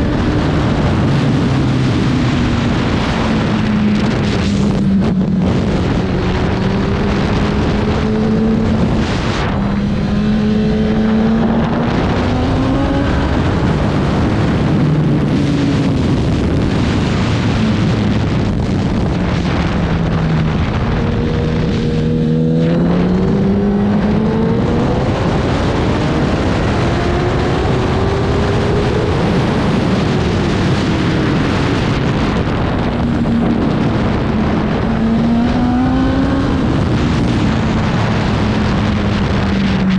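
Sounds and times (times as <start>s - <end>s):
motorbike engine revving: 0.0s - 39.9s
wind noise: 0.0s - 39.9s.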